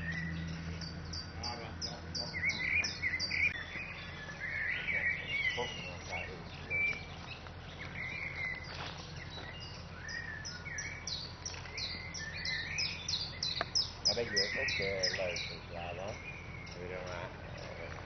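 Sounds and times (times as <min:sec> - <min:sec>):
songbirds singing: 0:00.0 - 0:18.0
steady low hum: 0:00.0 - 0:18.0.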